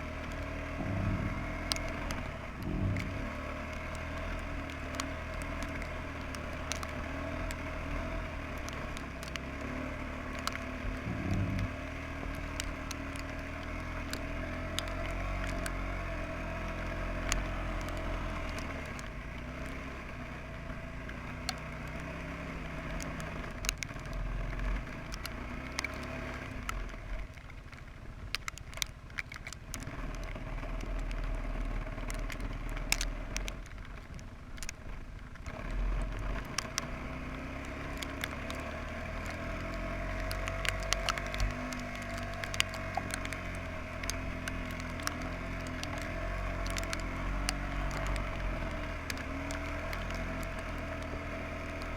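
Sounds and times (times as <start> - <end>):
quad bike engine under load: 0.0 - 51.9
sharp clicks and crackles: 0.0 - 51.9.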